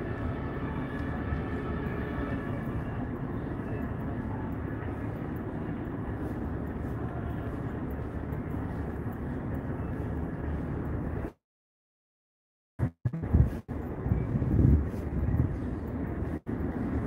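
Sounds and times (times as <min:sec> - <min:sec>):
low outdoor rumble: 0:00.0 - 0:11.4, 0:12.8 - 0:17.0.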